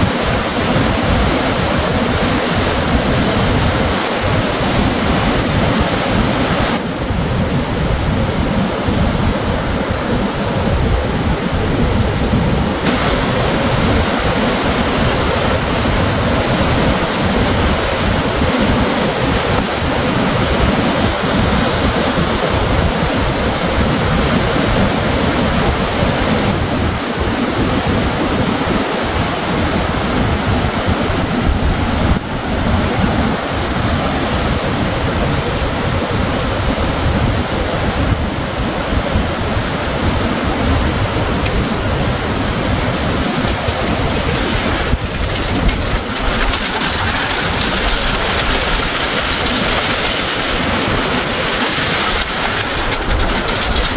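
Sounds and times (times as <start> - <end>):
waterfall and rapids rushing: 0.0 - 53.9.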